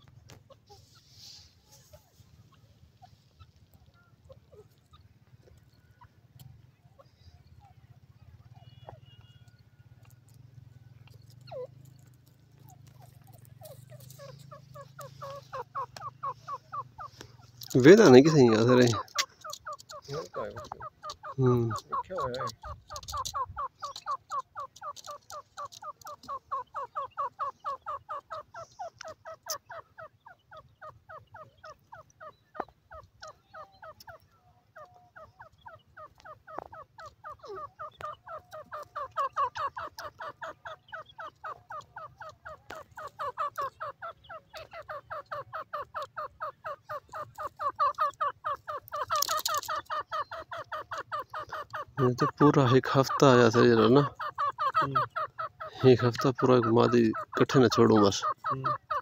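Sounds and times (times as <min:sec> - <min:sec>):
francolin calling: 0:00.0 - 0:59.0.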